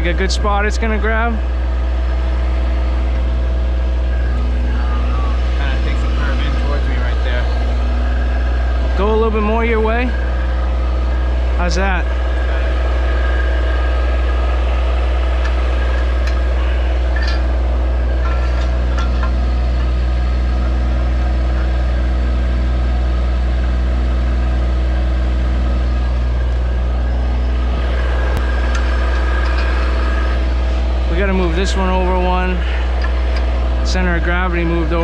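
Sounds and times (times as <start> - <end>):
skid loader engine idling: 0.0 - 35.0.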